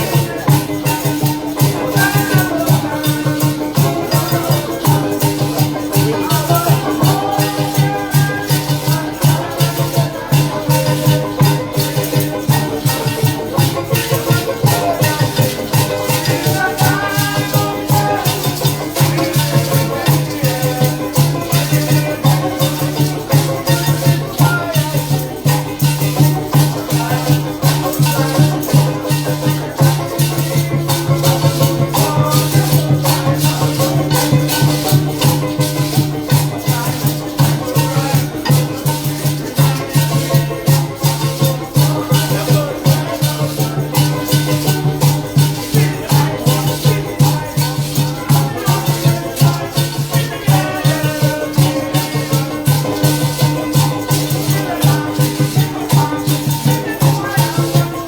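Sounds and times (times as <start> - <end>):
band music: 0.0 - 58.0
maracas shaking: 0.0 - 58.0.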